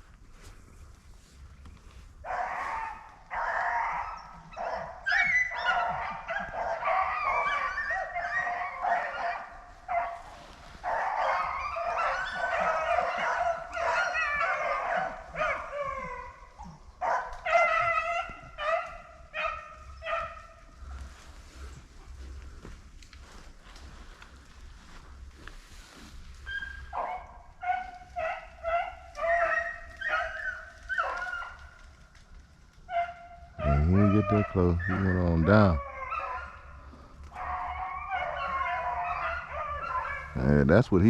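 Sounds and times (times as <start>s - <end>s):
hounds baying: 1.9s - 41.0s.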